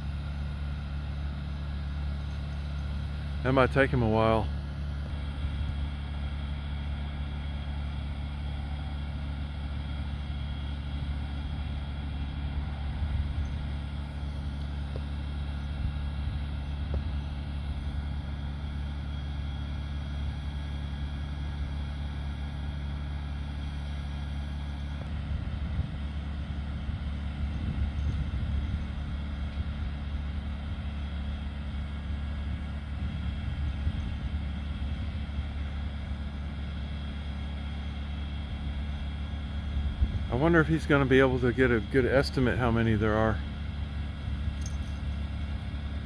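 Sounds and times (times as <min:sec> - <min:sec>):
generator engine running: 0:00.0 - 0:46.0.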